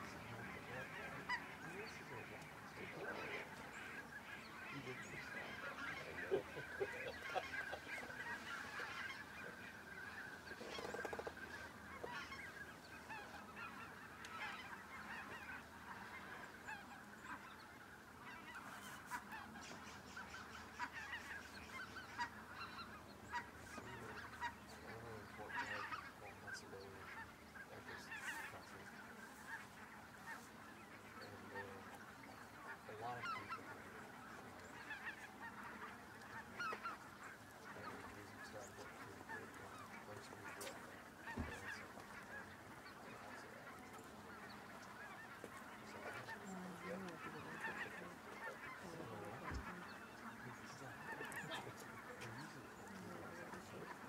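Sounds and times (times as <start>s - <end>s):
flock of geese calling: 0.0s - 54.0s.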